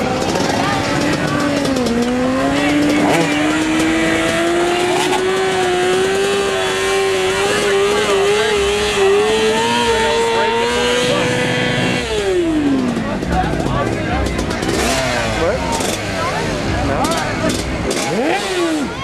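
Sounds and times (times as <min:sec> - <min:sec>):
motorcycle engine revving high: 0:00.0 - 0:19.0.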